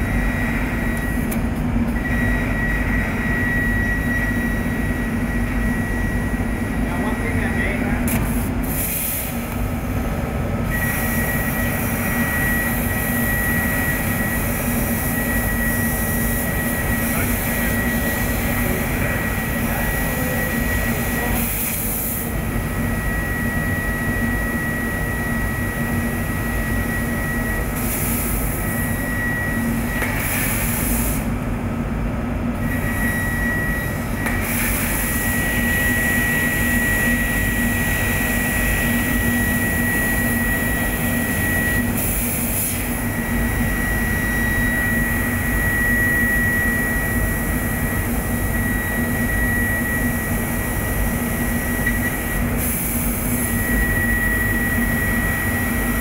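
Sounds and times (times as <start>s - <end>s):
high machine whine: 0.0s - 56.0s
laser cutter rumble and hum: 0.0s - 56.0s.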